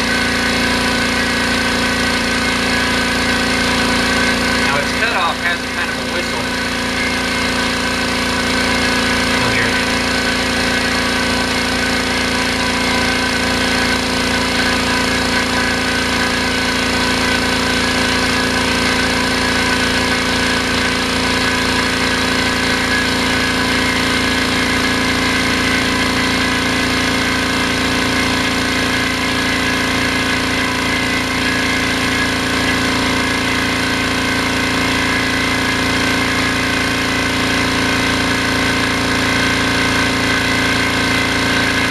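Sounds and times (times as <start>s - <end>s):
air compressor running: 0.0s - 41.9s.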